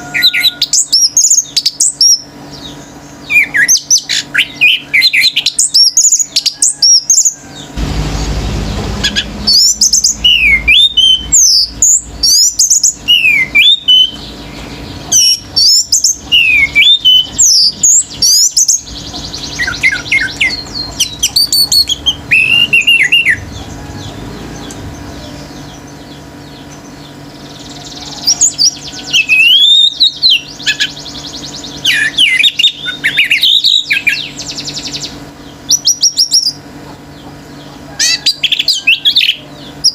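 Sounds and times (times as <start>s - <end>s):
thrush singing whistled song: 0.0s - 36.6s
cage birds calling: 0.0s - 39.9s.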